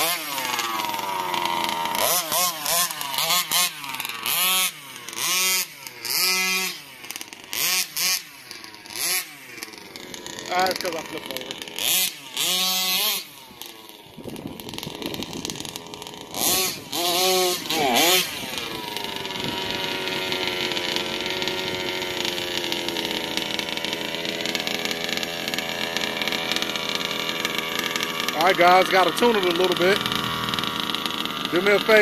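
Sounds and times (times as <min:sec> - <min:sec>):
two-stroke engine revving and idling: 0:00.0 - 0:32.0.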